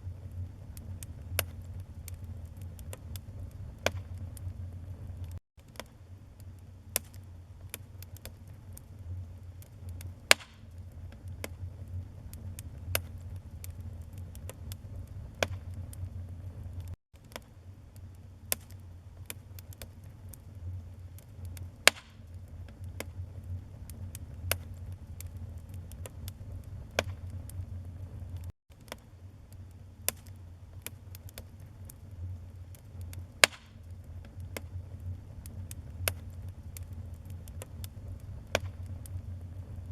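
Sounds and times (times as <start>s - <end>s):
low steady rumble: 0.0s - 39.9s
wood fire crackling and popping: 0.0s - 39.9s.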